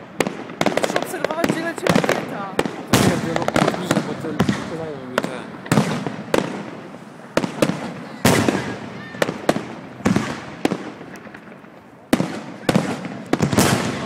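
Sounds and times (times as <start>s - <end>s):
fireworks exploding: 0.0s - 14.0s.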